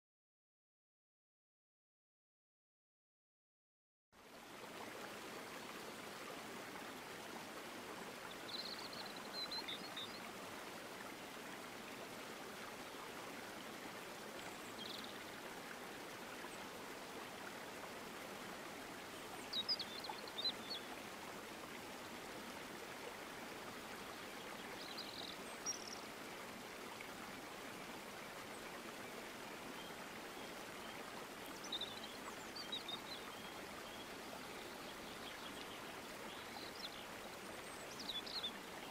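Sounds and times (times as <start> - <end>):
running water: 4.2 - 38.9.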